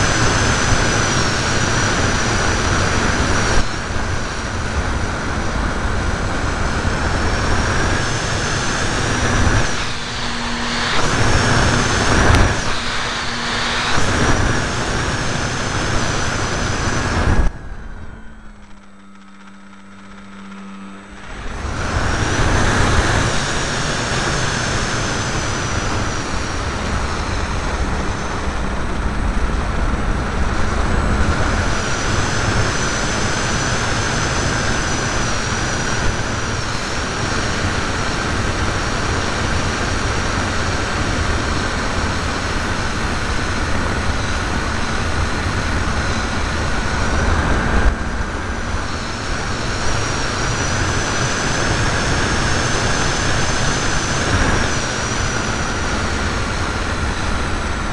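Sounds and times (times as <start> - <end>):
wind buffeting on microphone: 0.0 - 17.6, 21.3 - 57.9
electric motor and propeller whine: 0.0 - 57.9.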